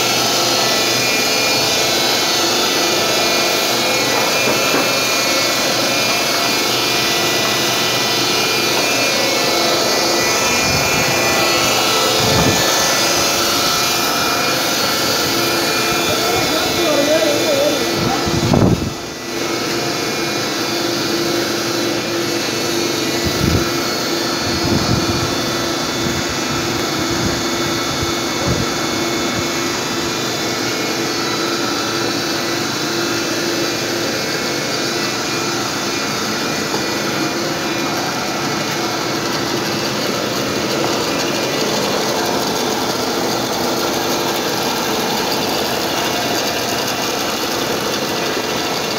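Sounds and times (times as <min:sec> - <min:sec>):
lamination machine humming: 0:00.0 - 0:48.9
machine whine: 0:00.0 - 0:48.9.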